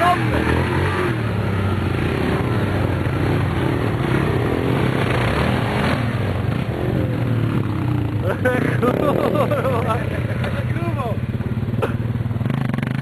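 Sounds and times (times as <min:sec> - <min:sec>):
atv engines revving: 0:00.0 - 0:13.0.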